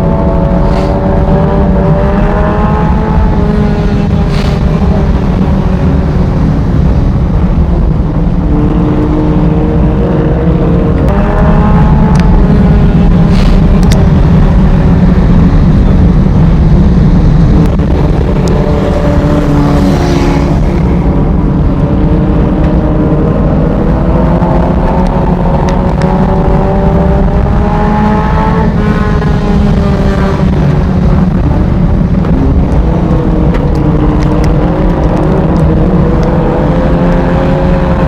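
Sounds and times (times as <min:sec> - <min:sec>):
heavy low rumble: 0:00.0 - 0:38.0
race car engine accelerating: 0:00.0 - 0:38.0.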